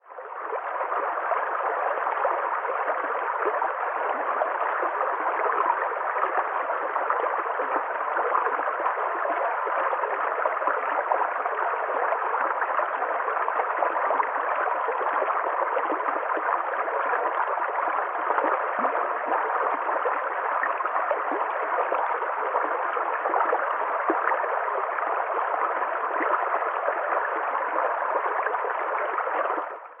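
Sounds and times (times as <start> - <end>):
stream water running: 0.1 - 30.0.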